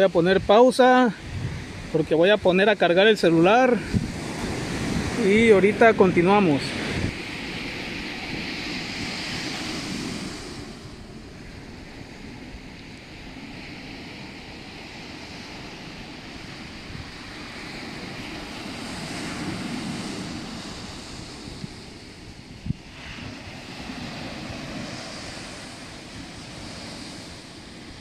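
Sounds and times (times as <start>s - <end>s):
ocean waves breaking on shore: 0.0s - 28.0s.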